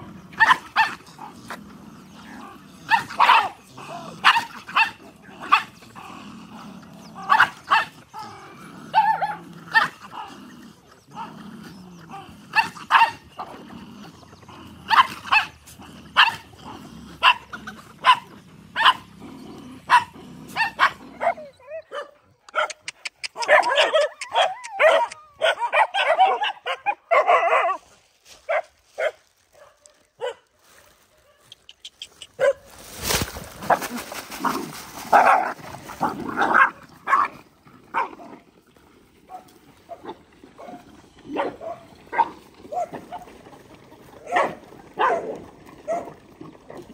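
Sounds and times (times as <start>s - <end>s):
dogs barking and snarling: 0.0s - 46.9s.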